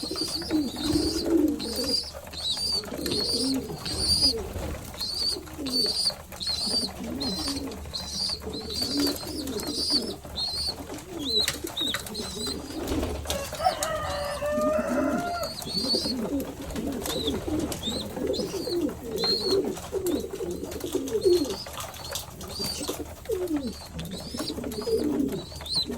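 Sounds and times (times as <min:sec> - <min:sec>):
pigeons cooing: 0:00.0 - 0:25.9.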